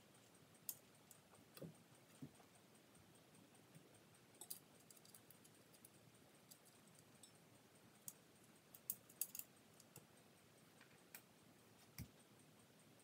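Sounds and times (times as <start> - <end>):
small parts clicking: 0.1 - 13.0.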